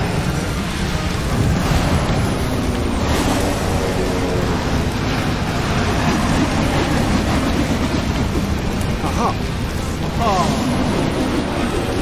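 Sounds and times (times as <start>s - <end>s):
cartoon plane rushing rumble: 0.0s - 12.0s.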